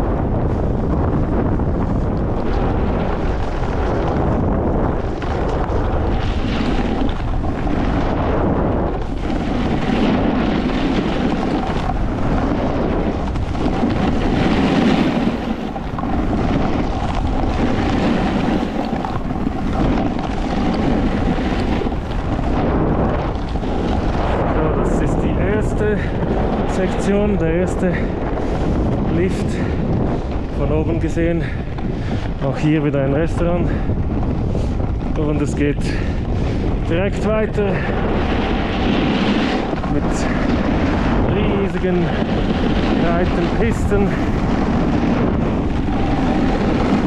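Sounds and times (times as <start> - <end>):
snowboard scraping over snow: 0.0 - 47.0
wind buffeting microphone: 0.0 - 47.0.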